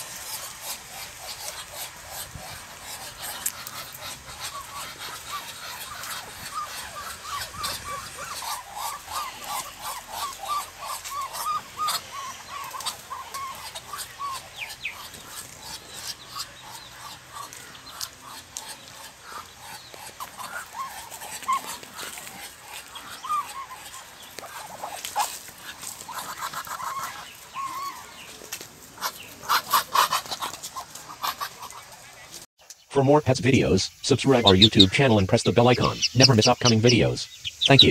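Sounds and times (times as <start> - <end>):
high-pitched animal calls: 0.3 - 32.4, 33.6 - 37.9.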